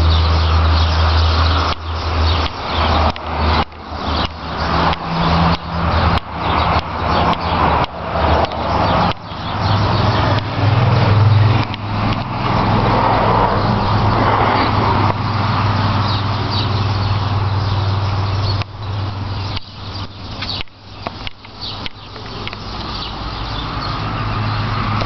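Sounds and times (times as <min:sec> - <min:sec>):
broad rushing noise: 0:00.0 - 0:25.0
vehicle engine humming: 0:00.0 - 0:25.0.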